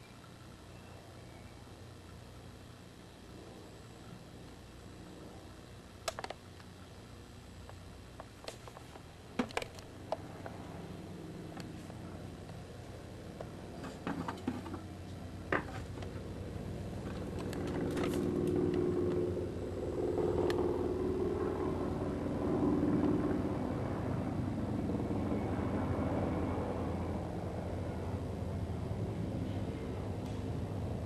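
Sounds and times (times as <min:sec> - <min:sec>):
helicopter drone: 0:00.0 - 0:31.0.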